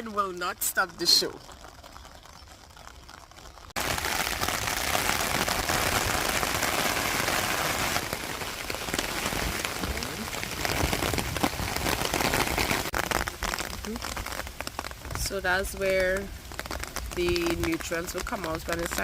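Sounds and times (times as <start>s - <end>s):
heavy rain: 3.0s - 19.0s.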